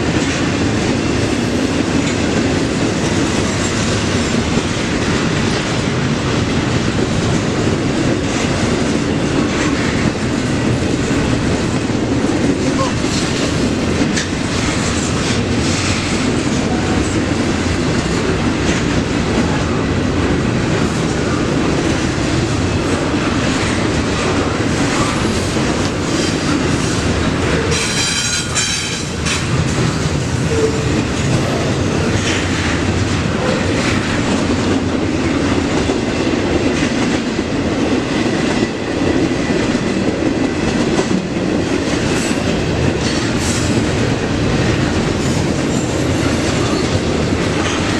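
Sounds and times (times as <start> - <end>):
train wheels clacking over rail joints: 0.0 - 47.9.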